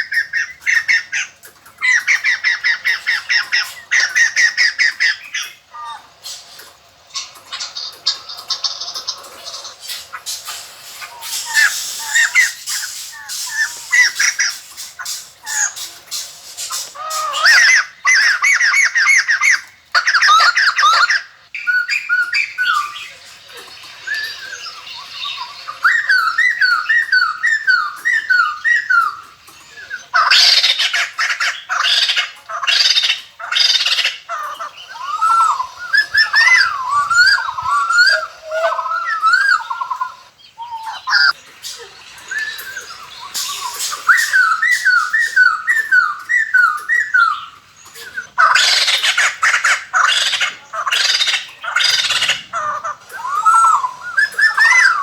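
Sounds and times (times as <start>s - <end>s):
birds squawking chatter: 0.0s - 55.0s
birds whistling: 0.0s - 55.0s.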